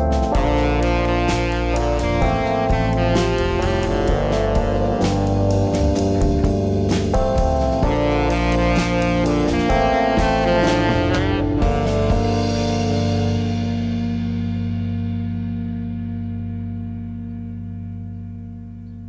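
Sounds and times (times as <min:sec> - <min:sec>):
drum kit beat: 0:00.0 - 0:15.4
guitar: 0:00.0 - 0:19.0.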